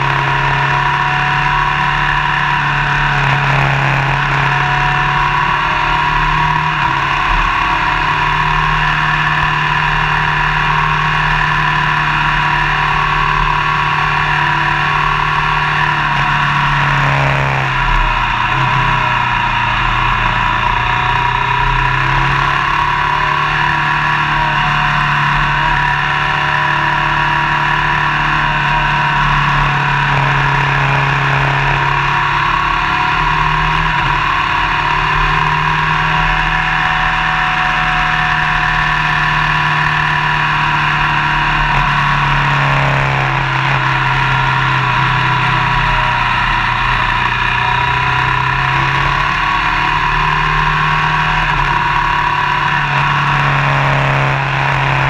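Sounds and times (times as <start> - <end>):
motorcycle engine cruising: 0.0 - 55.0
road noise: 0.0 - 55.0.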